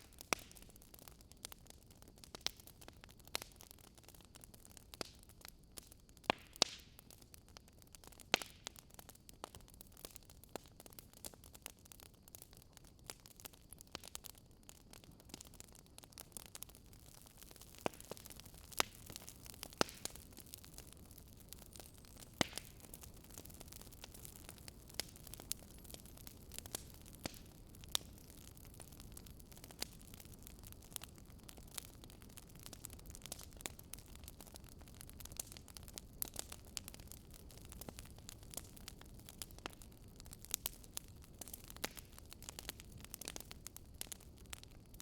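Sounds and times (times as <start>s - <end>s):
faint steady hiss: 0.0s - 45.0s
wood fire crackling: 0.0s - 45.0s.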